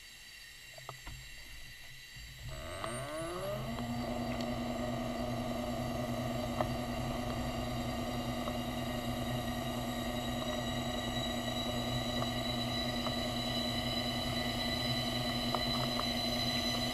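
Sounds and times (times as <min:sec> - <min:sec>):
underwater electric motor whine: 0:02.3 - 0:16.9.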